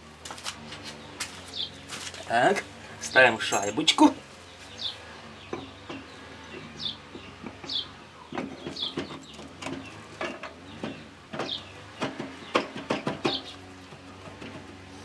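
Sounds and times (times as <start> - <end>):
small bird chirping: 0.8 - 1.9, 3.0 - 14.0.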